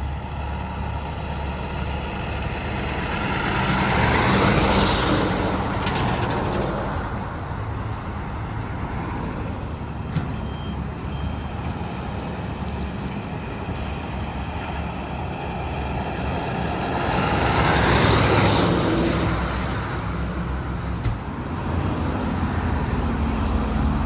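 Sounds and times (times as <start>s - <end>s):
heavy truck engine running: 0.0s - 24.0s
highway traffic: 0.0s - 24.0s.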